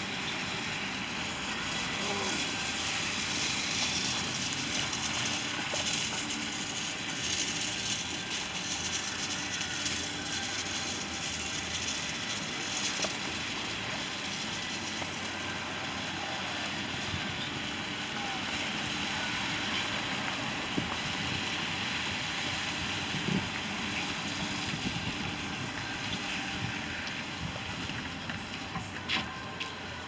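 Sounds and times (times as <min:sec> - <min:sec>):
city street traffic: 0:00.0 - 0:30.0.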